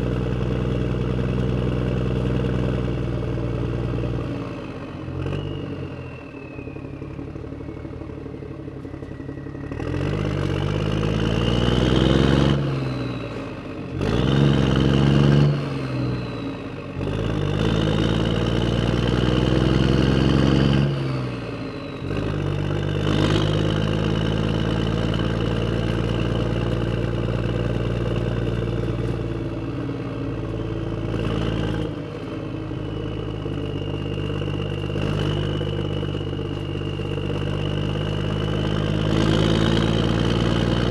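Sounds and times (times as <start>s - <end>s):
vehicle engine revving: 6.8s - 40.9s.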